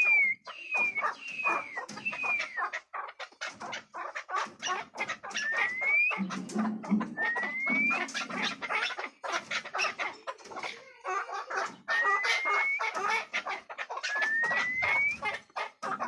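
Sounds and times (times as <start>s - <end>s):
partridge clucking calls: 0.0s - 16.0s.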